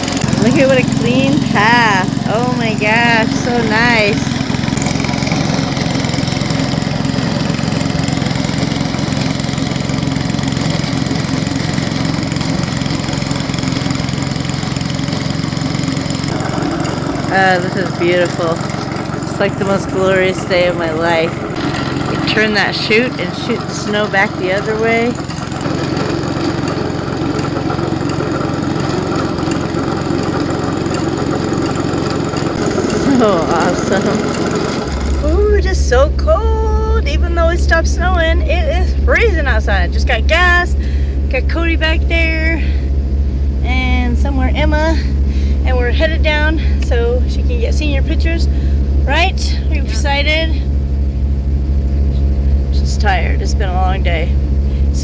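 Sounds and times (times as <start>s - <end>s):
snow blower engine running: 0.0s - 55.0s.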